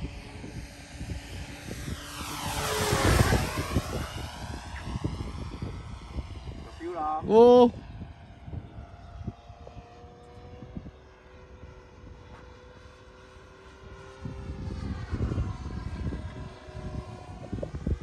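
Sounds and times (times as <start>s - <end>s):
electric motor and propeller: 0.0s - 18.0s.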